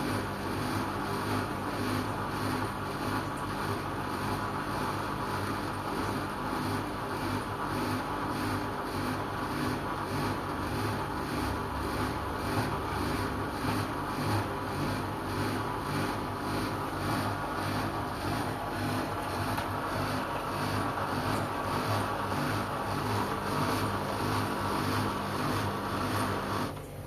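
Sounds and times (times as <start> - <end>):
washing machine running: 0.0 - 27.0.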